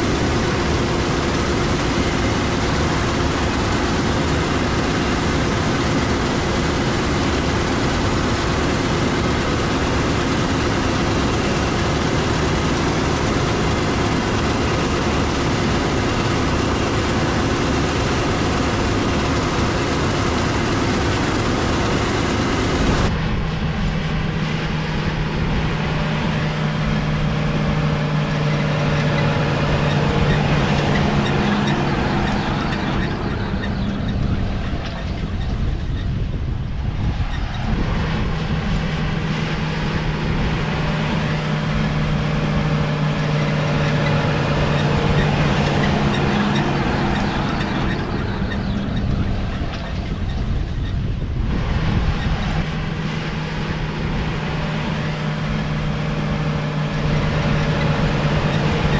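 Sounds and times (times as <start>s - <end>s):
heavy diesel machinery drone: 0.0s - 58.9s
mechanical rush: 0.0s - 58.9s.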